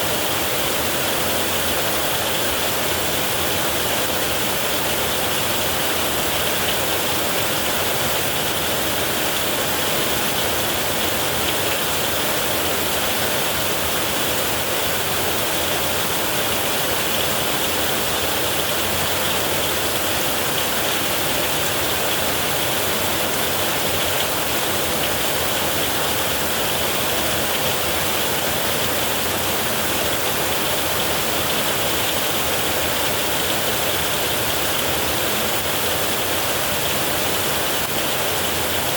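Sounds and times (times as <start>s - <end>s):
heavy rain on metal roof: 0.0s - 38.9s.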